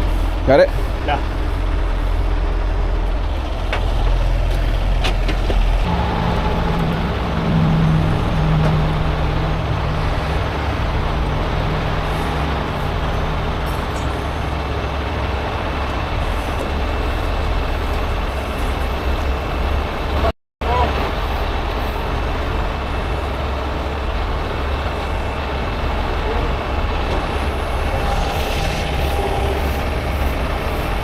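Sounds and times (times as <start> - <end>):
diesel truck engine running: 0.0 - 31.0
road noise: 0.0 - 31.0
rain: 5.9 - 31.0.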